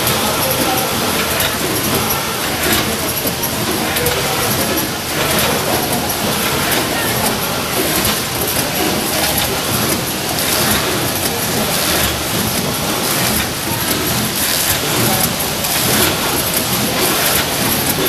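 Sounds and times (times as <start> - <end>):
packing machine running: 0.0 - 18.0.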